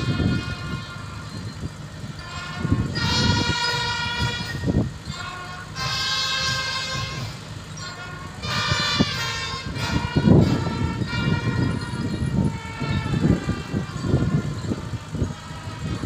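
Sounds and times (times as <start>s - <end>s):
horn blasts: 0.0s - 16.0s.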